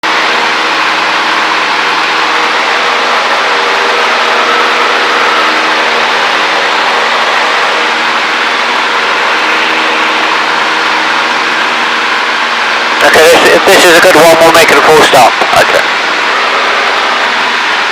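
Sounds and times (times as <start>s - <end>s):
airplane engine and propeller drone: 0.0s - 17.9s.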